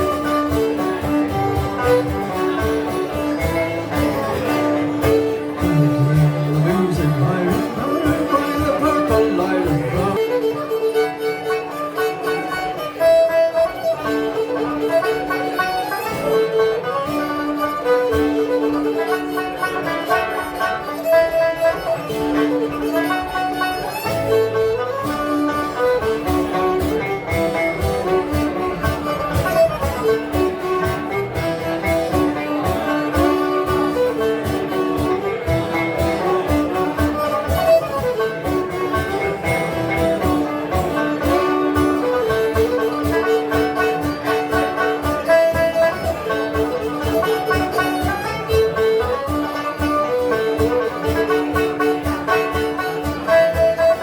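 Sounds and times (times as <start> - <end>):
banjo: 0.0 - 54.0
strummed twelve-string guitar: 0.0 - 54.0.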